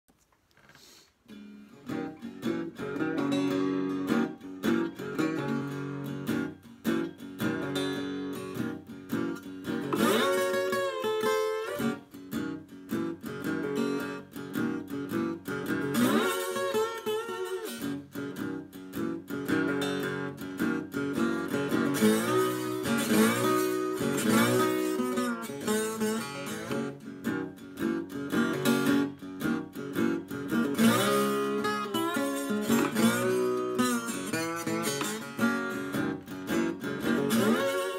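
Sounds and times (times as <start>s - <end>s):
slide guitar blues: 1.3s - 37.9s.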